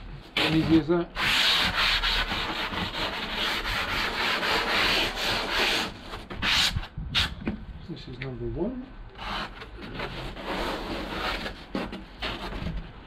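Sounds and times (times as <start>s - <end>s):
foam sheets rubbing and scraping: 0.2s - 7.4s, 9.2s - 13.0s.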